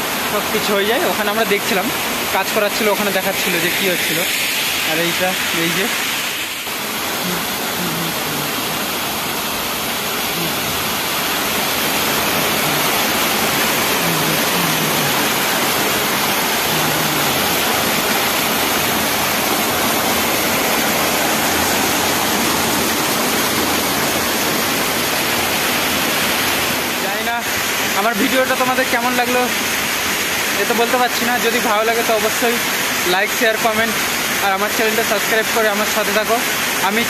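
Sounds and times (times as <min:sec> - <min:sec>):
water rushing down steps: 0:00.0 - 0:37.0.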